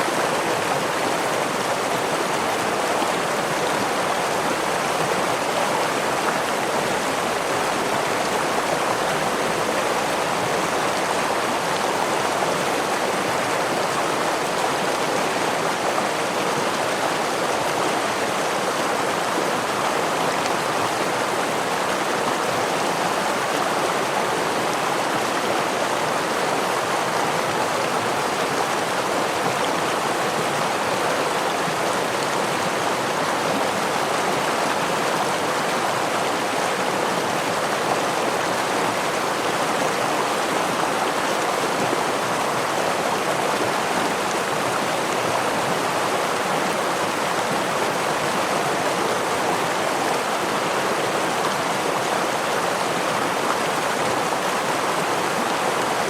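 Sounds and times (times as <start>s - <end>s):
stream flowing over waterfall: 0.0s - 56.0s.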